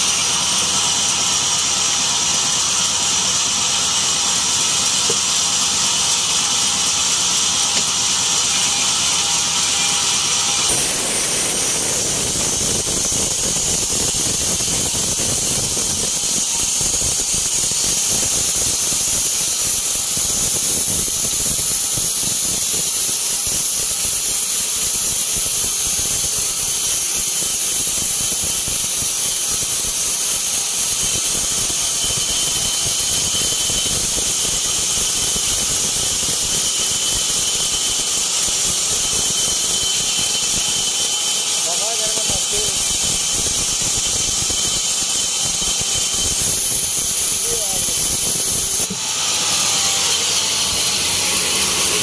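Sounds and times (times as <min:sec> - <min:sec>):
band saw cutting log: 0:00.0 - 0:52.0.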